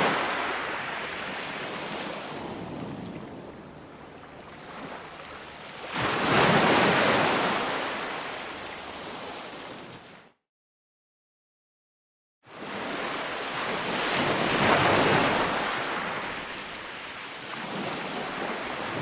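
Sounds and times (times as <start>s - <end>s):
ocean waves breaking: 0.0s - 10.3s, 12.5s - 19.0s.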